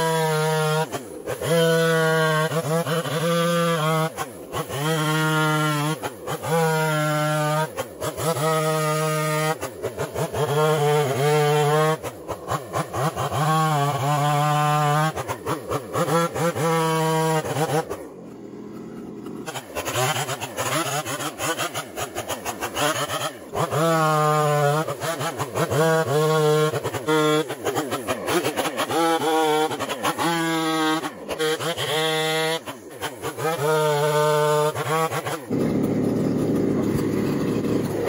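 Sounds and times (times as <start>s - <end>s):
chainsaw cutting logs: 0.0s - 38.0s.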